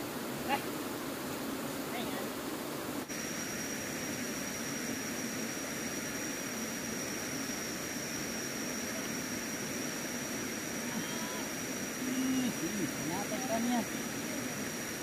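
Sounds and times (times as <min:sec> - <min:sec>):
high-pitched insect whine: 0:00.0 - 0:15.0
stream rushing over rocks: 0:00.0 - 0:15.0.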